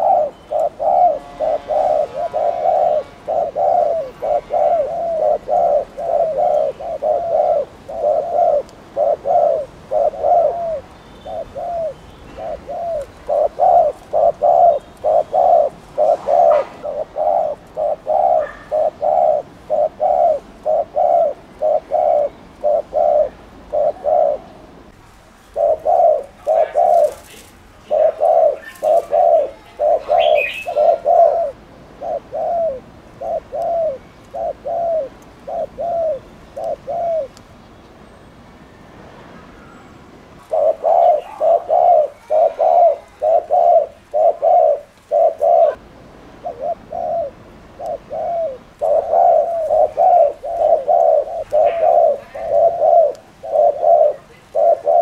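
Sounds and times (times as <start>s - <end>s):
dove cooing: 0.0s - 37.4s, 40.4s - 45.8s, 46.4s - 55.0s.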